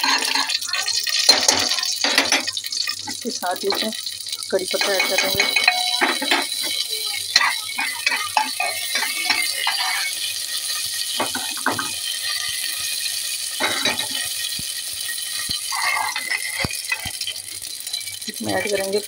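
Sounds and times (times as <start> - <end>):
seeds sizzling and crackling in ghee: 0.0 - 19.0.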